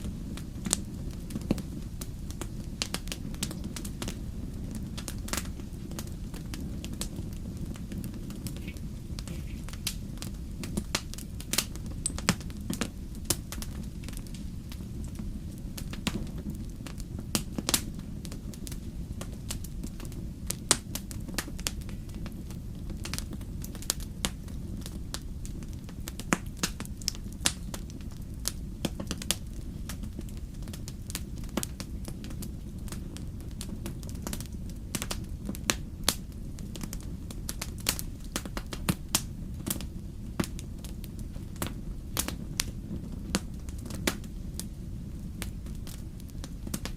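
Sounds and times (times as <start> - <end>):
burning logs crackling and popping: 0.0 - 46.9
low rumble of flames: 0.0 - 46.9.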